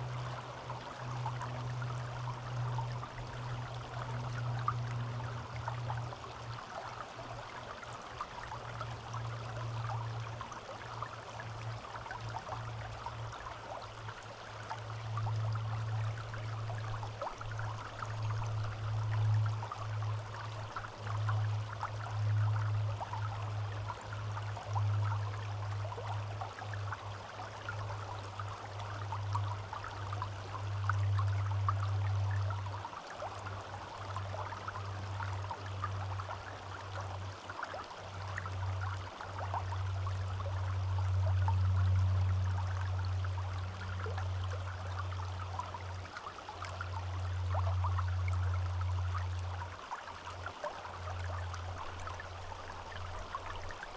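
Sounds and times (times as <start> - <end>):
stream trickling: 0.0 - 53.9.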